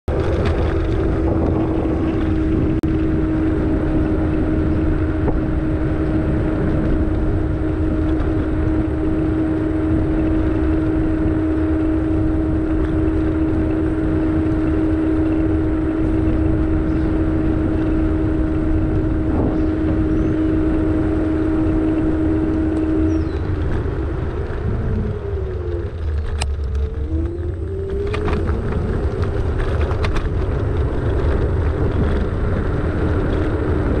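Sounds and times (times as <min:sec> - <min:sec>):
road and wind rumble: 0:00.0 - 0:34.0
vehicle whine: 0:00.0 - 0:34.0.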